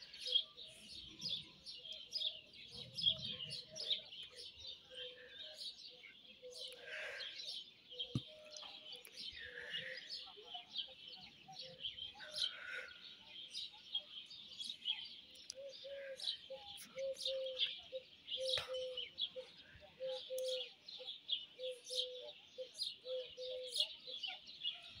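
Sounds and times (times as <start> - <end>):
small songbirds chirping: 0.0 - 25.0.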